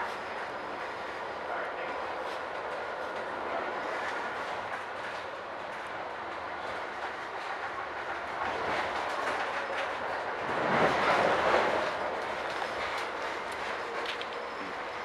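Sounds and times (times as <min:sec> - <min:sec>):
train car rumbling and rattling: 0:00.0 - 0:15.0.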